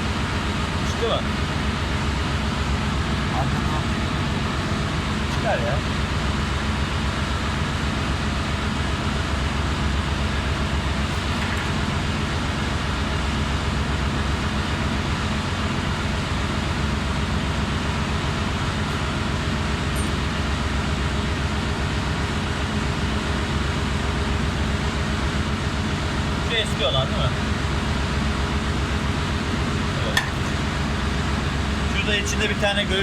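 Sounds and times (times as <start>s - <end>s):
engine-room machinery droning: 0.0s - 33.0s.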